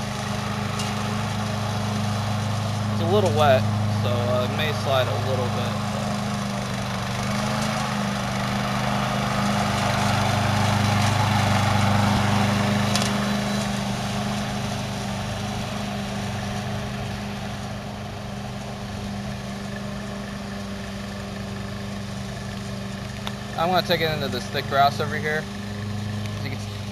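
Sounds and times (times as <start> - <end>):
mower gas engine running: 0.0 - 26.9.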